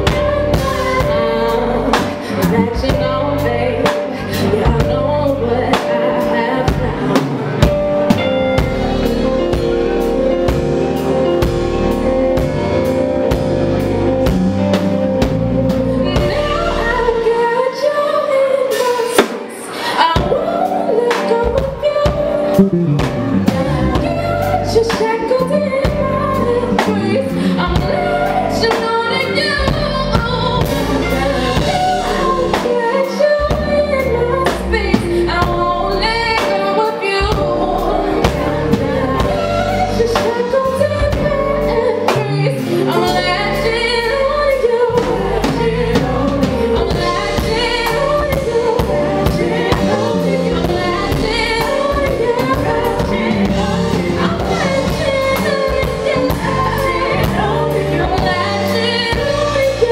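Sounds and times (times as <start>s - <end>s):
live band music: 0.0s - 59.9s
woman singing lead: 0.0s - 59.9s.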